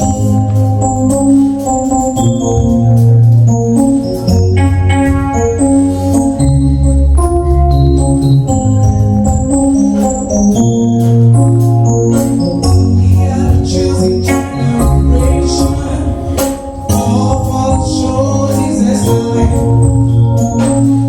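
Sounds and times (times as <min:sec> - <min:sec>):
deep bass line: 0:00.0 - 0:21.0
electronic organ chords: 0:00.0 - 0:21.0
percussion strikes: 0:00.0 - 0:21.0.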